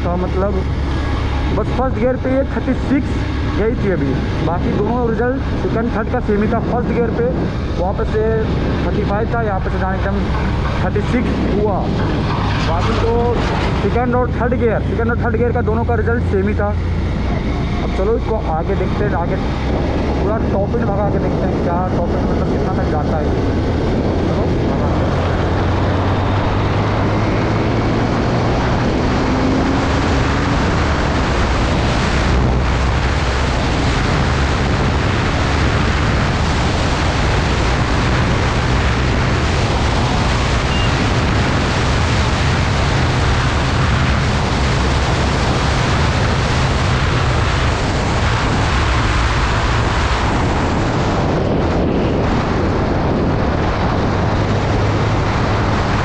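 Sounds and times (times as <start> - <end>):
motorcycle engine at full throttle: 0.0 - 56.0
wind noise on microphone: 0.0 - 56.0.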